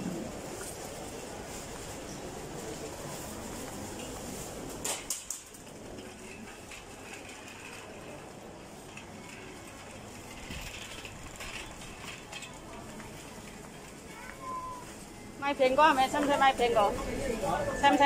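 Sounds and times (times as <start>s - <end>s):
busy supermarket background noise: 0.0s - 18.0s.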